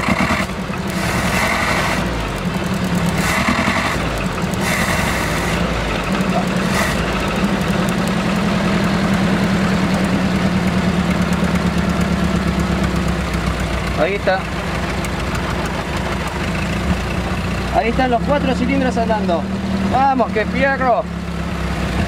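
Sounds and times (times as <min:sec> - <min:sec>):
engine idling unevenly: 0:00.0 - 0:22.0.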